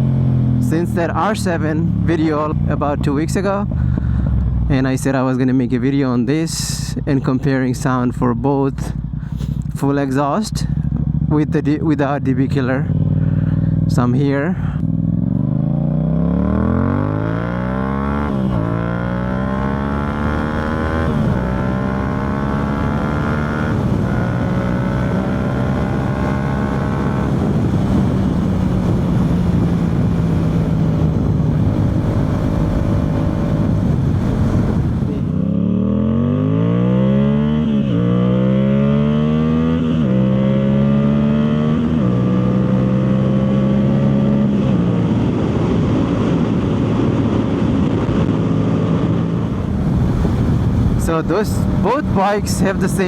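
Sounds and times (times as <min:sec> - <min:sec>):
motorcycle engine accelerating: 0:00.0 - 0:05.2, 0:05.8 - 0:53.0.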